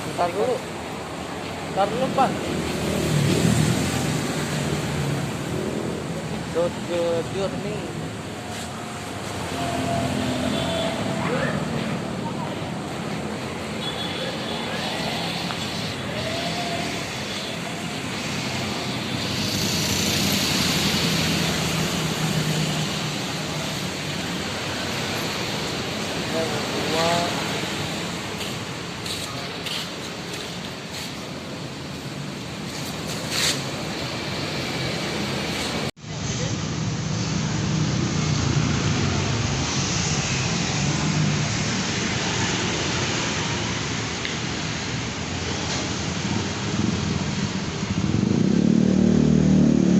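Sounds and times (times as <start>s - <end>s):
road traffic noise: 0.0s - 49.9s
motor vehicle hum: 0.8s - 49.9s.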